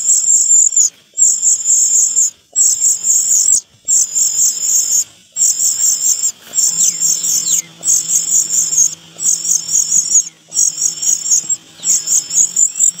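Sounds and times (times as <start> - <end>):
chick trilled begging calls: 0.0 - 13.0.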